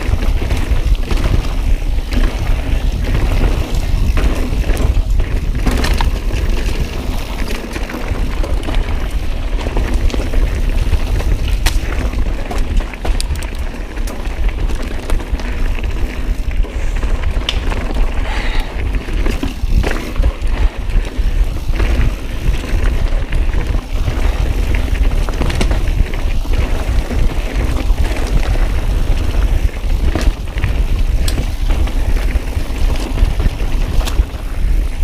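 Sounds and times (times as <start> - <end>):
bike rattling over rocks: 0.0 - 35.0
wind buffeting microphone: 0.0 - 35.0.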